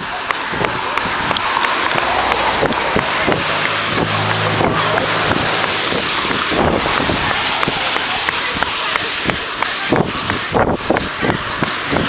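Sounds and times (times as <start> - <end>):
passing car engine: 0.0 - 12.0
wind buffeting microphone: 0.0 - 12.0.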